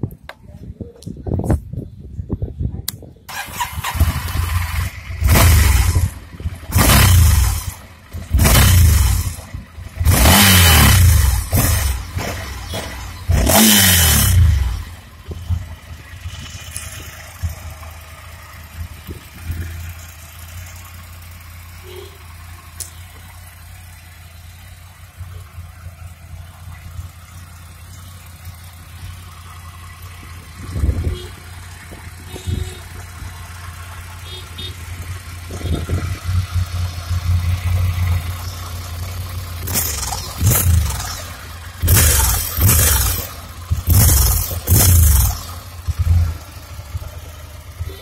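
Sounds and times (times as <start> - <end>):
motorcycle engine idling: 3.2 - 48.0.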